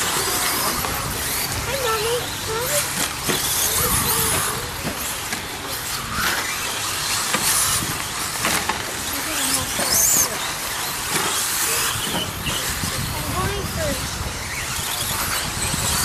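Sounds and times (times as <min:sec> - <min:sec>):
rc truck motors whining: 0:00.0 - 0:16.0.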